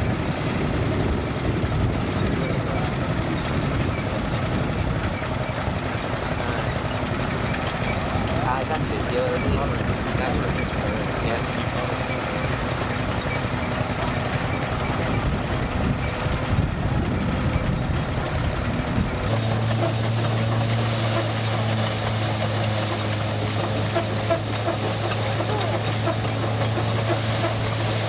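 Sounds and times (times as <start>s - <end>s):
tractor engine rumbling: 0.0s - 28.0s.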